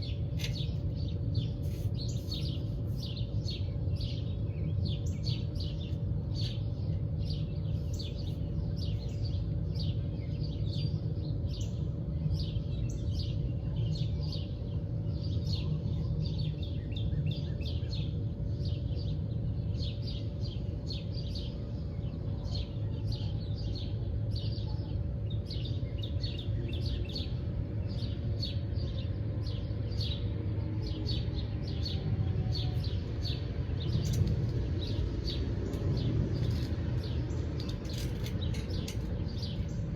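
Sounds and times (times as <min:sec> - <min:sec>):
faint steady hum: 0:00.0 - 0:39.9
songbirds chirping: 0:00.0 - 0:39.9.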